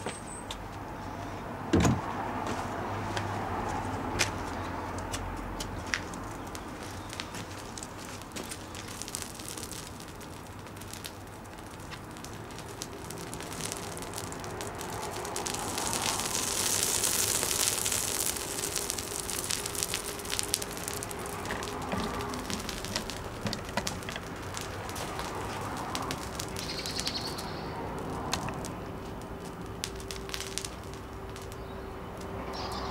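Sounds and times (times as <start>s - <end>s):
flames crackling and popping: 4.2s - 32.9s
fire hissing: 6.3s - 32.8s.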